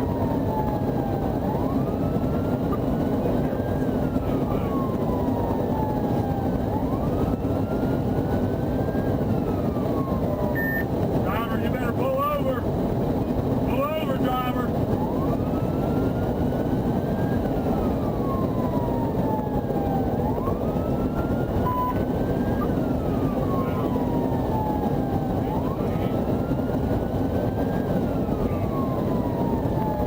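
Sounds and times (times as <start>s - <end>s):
engine and road noise: 0.0s - 30.0s
police siren wailing: 0.0s - 30.0s.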